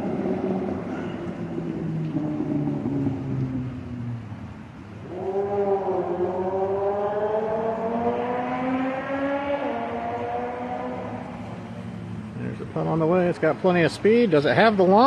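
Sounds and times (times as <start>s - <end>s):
vehicle engine accelerating: 0.0s - 13.6s.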